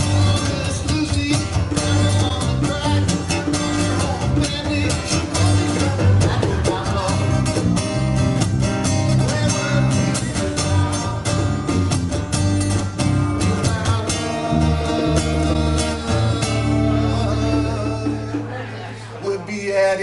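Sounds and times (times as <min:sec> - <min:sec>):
bass notes: 0:00.0 - 0:19.4
guitar: 0:00.0 - 0:20.0.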